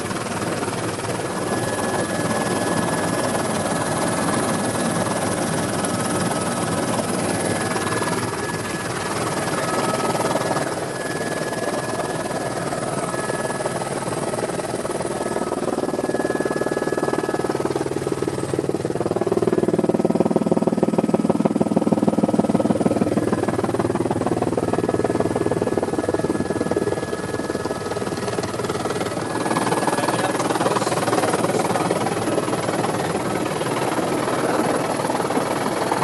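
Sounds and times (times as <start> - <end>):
helicopter turbine drone: 0.0 - 36.0.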